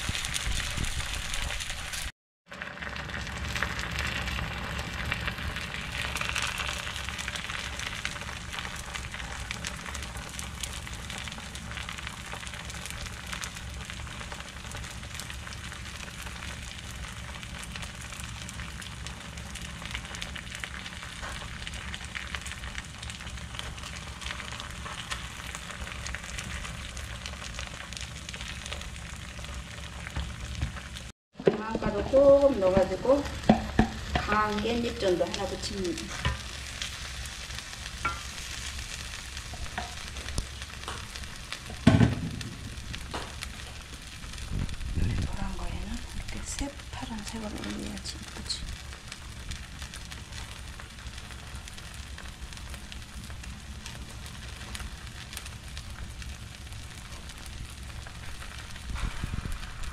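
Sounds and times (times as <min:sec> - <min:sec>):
leaf frying in oil: 0:00.0 - 0:59.9.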